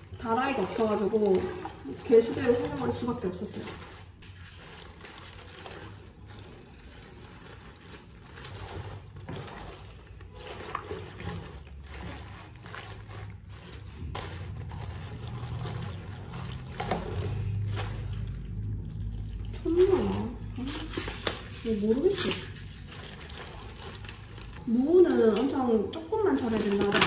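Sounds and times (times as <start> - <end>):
water sloshing and trickling: 0.0 - 27.0
wet leaves rustling and squeaking: 0.0 - 27.0.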